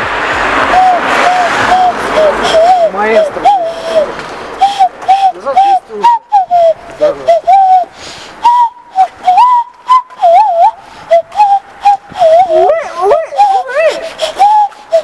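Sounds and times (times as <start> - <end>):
person whistling: 0.7 - 15.0.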